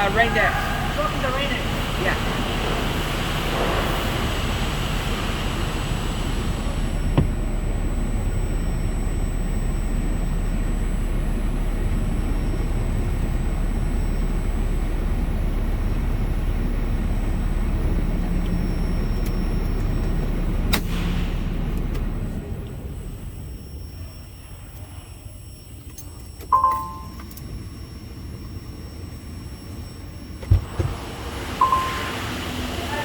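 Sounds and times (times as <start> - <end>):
diesel truck engine idling: 0.0 - 25.8, 26.5 - 33.0.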